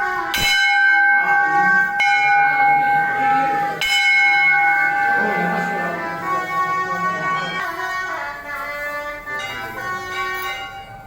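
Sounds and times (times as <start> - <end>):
temple bell ringing: 0.0 - 11.0.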